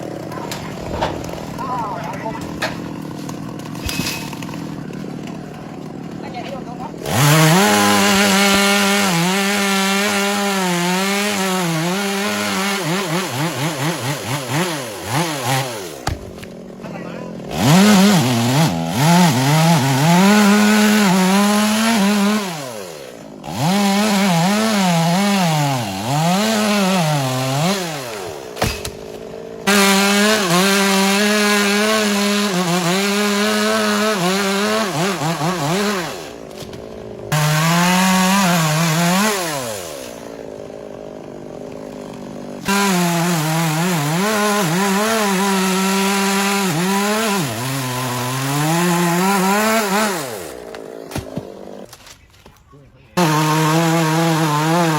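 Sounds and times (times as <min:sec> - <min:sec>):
chainsaw cutting wood: 0:00.0 - 0:52.5, 0:53.2 - 0:54.9.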